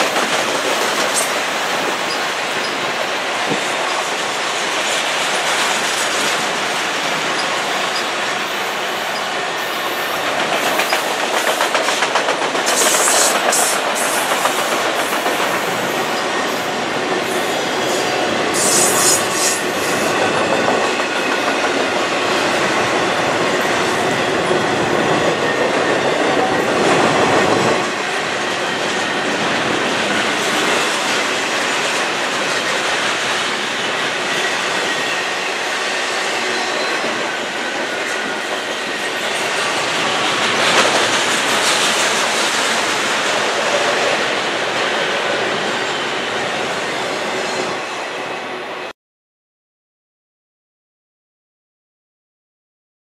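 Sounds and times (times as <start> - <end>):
wheels clickety-clack over rail joints: 0.0 - 47.0.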